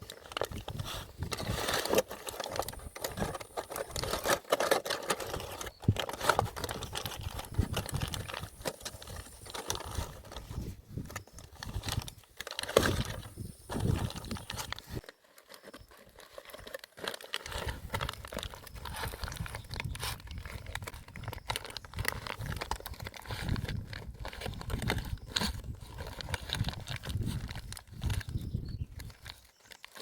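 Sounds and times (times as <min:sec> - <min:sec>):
foil crinkling: 0:00.0 - 0:30.0.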